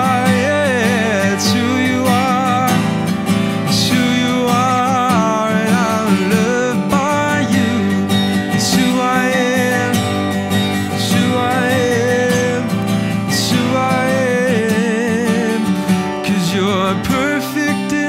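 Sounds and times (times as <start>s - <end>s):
man singing: 0.0s - 18.0s
strummed acoustic guitar: 0.0s - 18.0s.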